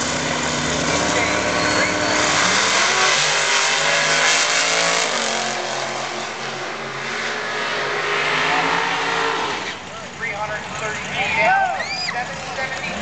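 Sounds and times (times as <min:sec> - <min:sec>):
drag cars accelerating: 0:00.0 - 0:13.0.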